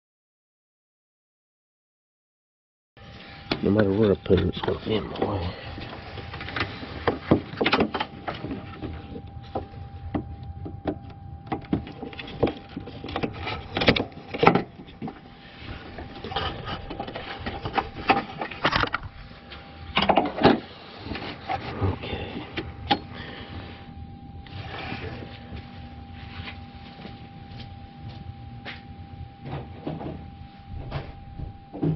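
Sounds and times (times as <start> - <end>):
faint steady whine: 3.0 - 31.9.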